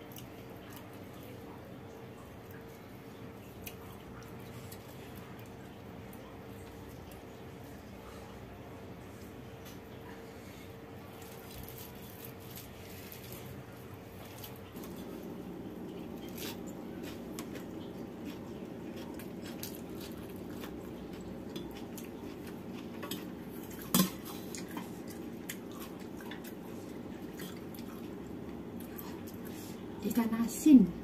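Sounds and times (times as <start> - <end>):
quiet chewing: 0.0 - 30.0
steady low hum: 0.0 - 31.0.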